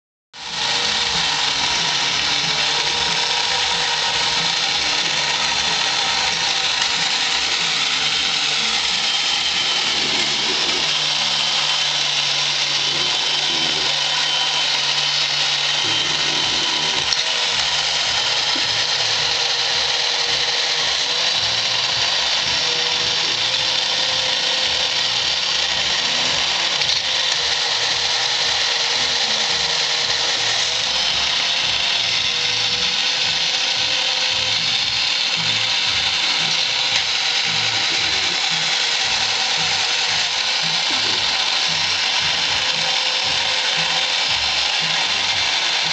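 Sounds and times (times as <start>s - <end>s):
toy motor and gears whirring: 0.4s - 45.9s.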